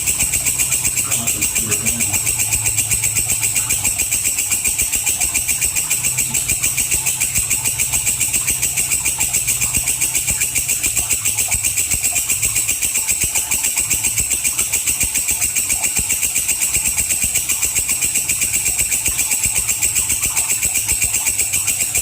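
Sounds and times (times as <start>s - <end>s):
katydid chirring: 0.0s - 22.0s.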